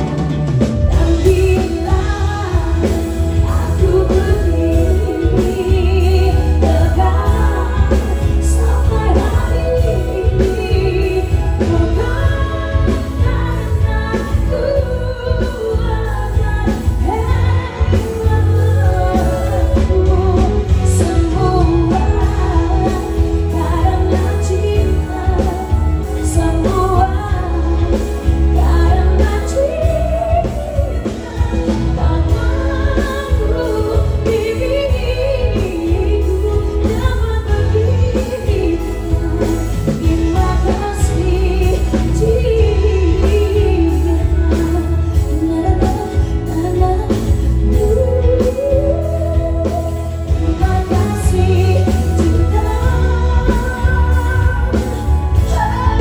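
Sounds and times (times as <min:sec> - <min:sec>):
live band playing: 0:00.0 - 0:56.0
woman singing pop song: 0:00.0 - 0:56.0.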